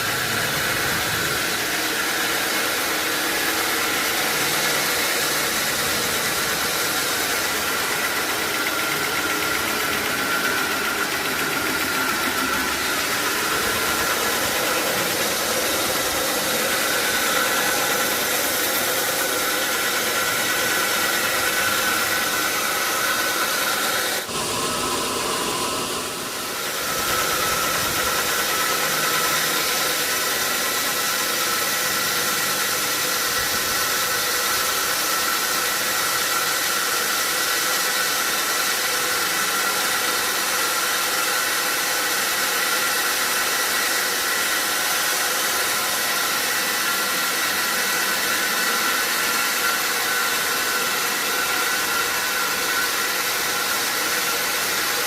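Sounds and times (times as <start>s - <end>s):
sawmill machinery whining: 0.0s - 55.0s.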